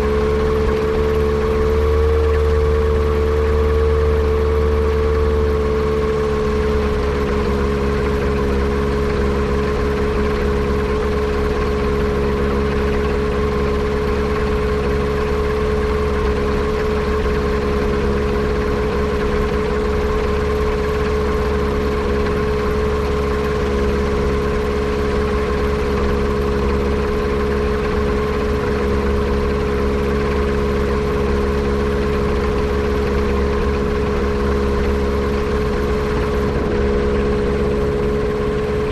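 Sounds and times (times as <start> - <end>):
airplane engine running with misfire: 0.0 - 38.9.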